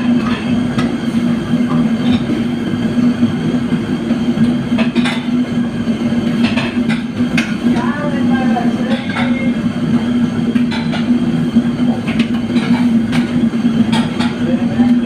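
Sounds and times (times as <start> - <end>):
mechanical hum and rumble: 0.0 - 15.0.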